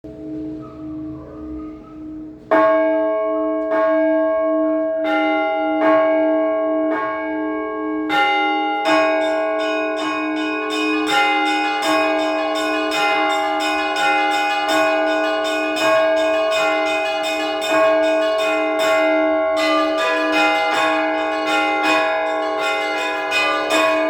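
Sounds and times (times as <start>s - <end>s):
large bell low hum: 0.0s - 24.0s
smaller church bells striking: 0.1s - 24.0s.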